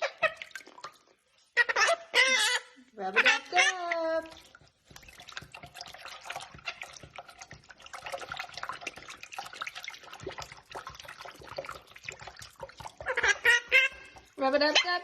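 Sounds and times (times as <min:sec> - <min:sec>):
running water splashing: 0:00.0 - 0:01.8, 0:03.0 - 0:15.0.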